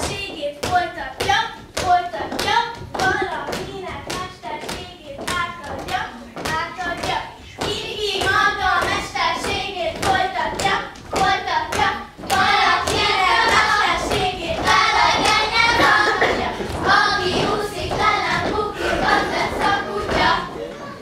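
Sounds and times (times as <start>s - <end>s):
feet stamping on wooden stage: 0.0s - 20.5s
girls singing folk song: 0.0s - 20.8s.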